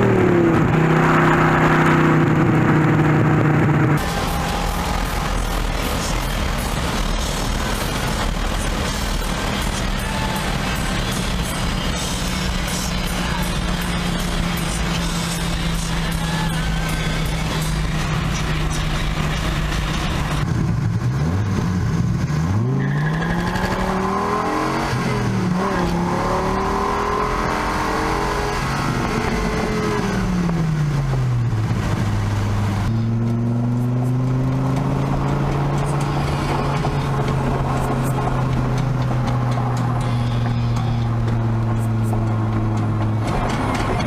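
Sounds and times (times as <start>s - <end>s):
car engine accelerating hard: 0.0s - 44.0s.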